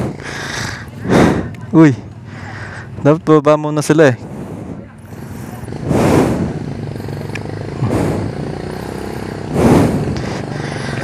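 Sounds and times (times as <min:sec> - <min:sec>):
engine noise surges: 0:00.0 - 0:11.0
vehicle engine idling: 0:00.0 - 0:11.0.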